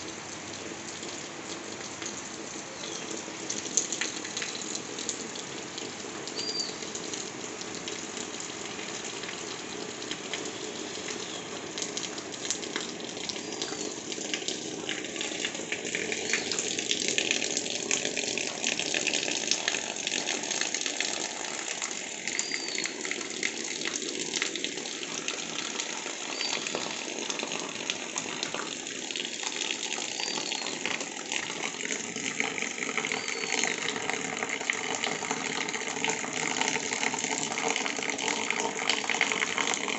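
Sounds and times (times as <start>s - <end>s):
runoff water splashing on metal: 0.0s - 39.9s
steady rain: 0.0s - 39.9s.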